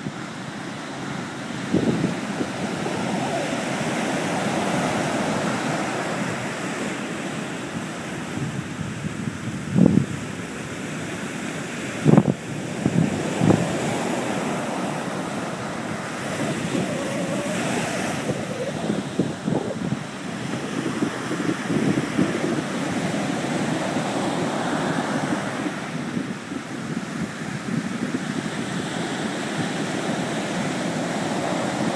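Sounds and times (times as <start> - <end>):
sea surf breaking on beach: 0.0 - 31.9
wind buffeting microphone: 0.0 - 31.9.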